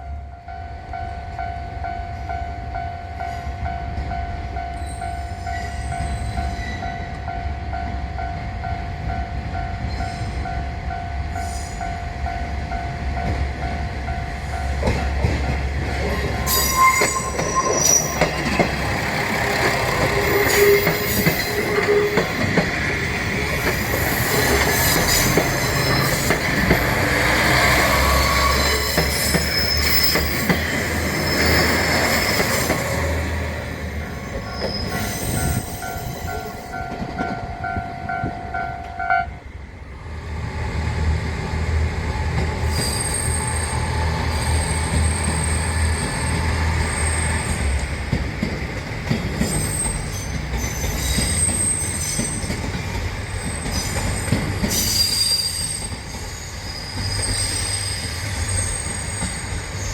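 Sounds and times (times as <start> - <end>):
train low rumble: 0.0 - 59.9
rail wheels squealing: 4.6 - 7.3, 9.6 - 10.6, 11.3 - 13.3, 14.3 - 39.2, 40.7 - 48.2, 49.0 - 59.9.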